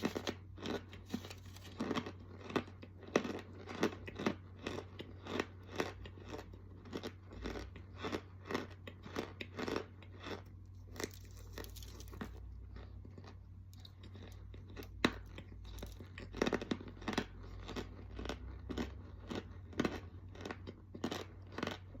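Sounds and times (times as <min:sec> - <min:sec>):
chewing crunchy food: 0:00.0 - 0:22.0.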